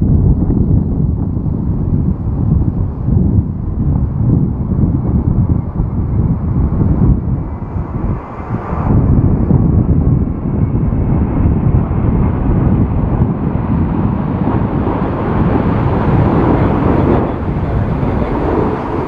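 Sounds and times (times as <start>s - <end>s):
wind buffeting microphone: 0.0s - 19.0s
jet engines roaring: 0.3s - 19.0s.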